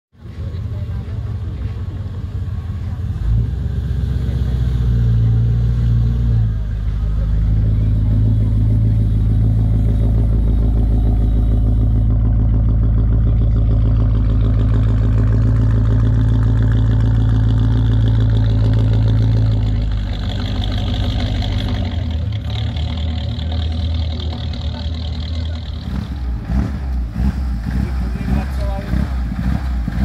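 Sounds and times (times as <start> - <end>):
car engine idling: 0.2 - 30.0
car pulling away: 0.2 - 30.0.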